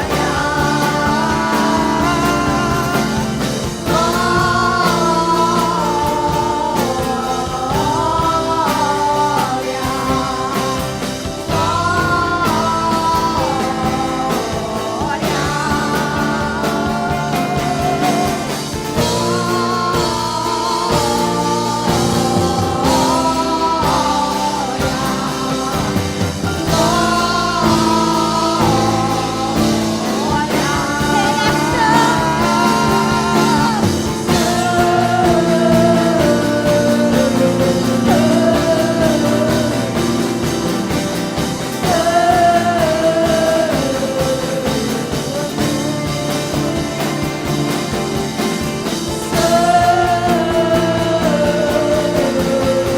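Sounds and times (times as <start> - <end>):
person singing: 0.0 - 52.9
worship band music with guitar: 0.0 - 52.9.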